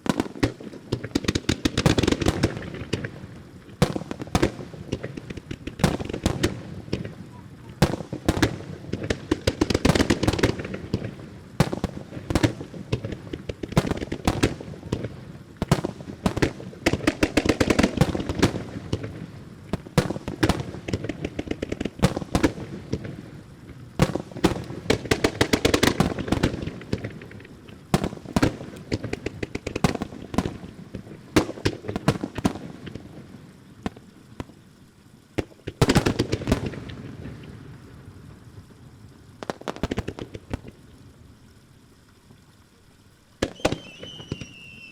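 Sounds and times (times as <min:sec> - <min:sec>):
fireworks booming and crackling: 0:00.0 - 0:41.6, 0:43.4 - 0:44.9.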